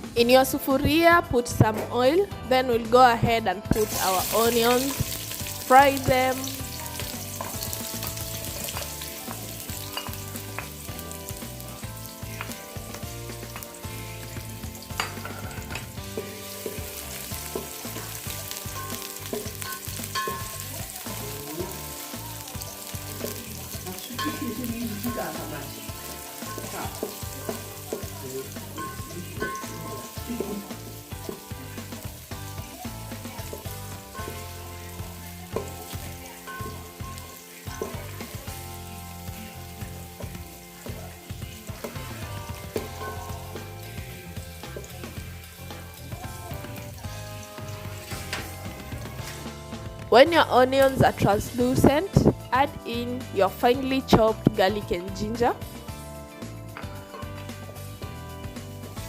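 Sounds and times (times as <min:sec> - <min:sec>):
onions sizzling in oil: 0:03.0 - 0:59.0.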